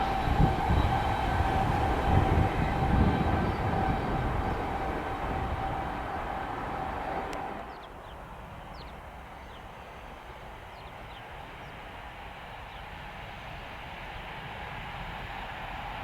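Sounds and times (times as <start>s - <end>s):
passing train rumble: 0.0s - 16.0s.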